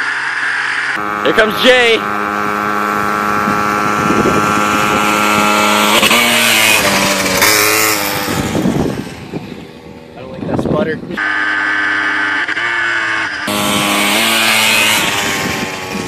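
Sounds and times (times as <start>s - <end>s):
small motorbike engine revving: 0.0s - 10.2s, 11.1s - 16.0s.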